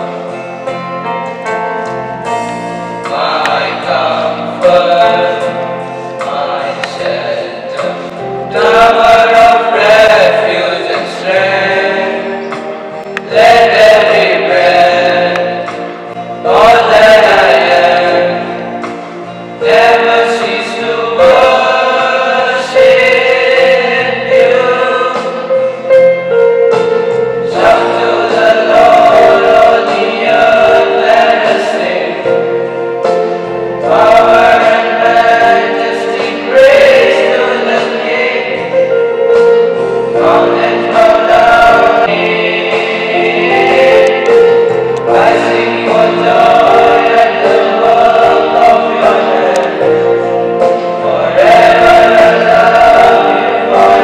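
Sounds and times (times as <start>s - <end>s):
group singing a prayer song: 3.1s - 5.6s, 6.2s - 12.4s, 13.1s - 19.0s, 19.6s - 25.7s, 27.4s - 32.5s, 33.3s - 39.0s, 39.7s - 54.0s.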